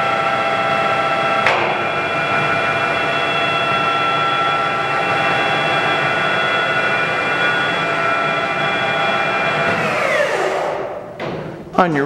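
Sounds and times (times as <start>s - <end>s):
lathe running: 0.0s - 11.2s.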